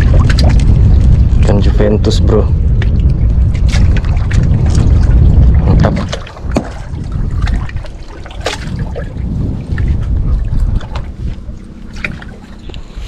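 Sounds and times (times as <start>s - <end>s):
water slapping around a boat: 0.0s - 13.0s
wind buffeting microphone: 0.0s - 13.0s.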